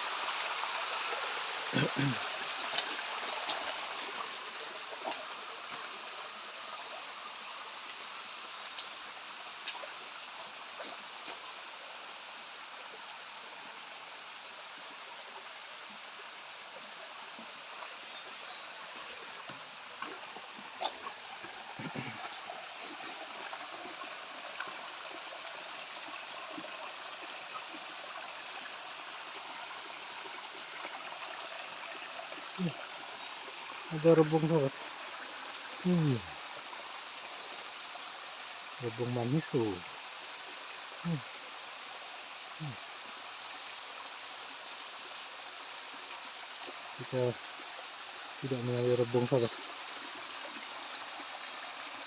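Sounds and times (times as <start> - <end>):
water rushing over rocks: 0.0 - 12.3, 17.4 - 52.0.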